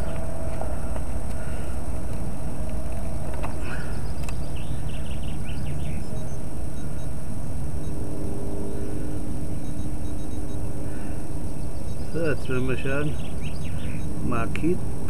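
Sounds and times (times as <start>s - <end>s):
faint steady tones: 0.0s - 15.0s
low rumble: 0.0s - 15.0s.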